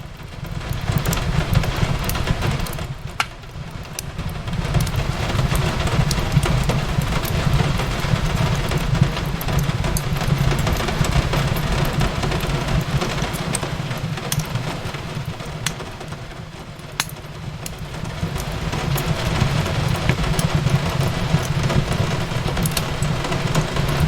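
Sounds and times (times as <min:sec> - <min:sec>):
rain hiss: 0:00.0 - 0:24.0
fireplace crackling and popping: 0:00.1 - 0:24.0.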